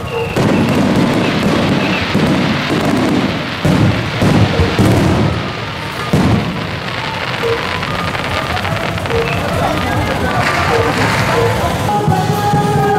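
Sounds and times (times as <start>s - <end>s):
firework booms: 0.0s - 12.8s.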